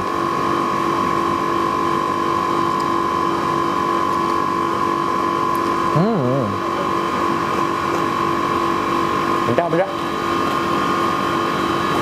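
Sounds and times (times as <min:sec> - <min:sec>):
steady two-pitch mechanical hum: 0:00.0 - 0:12.0.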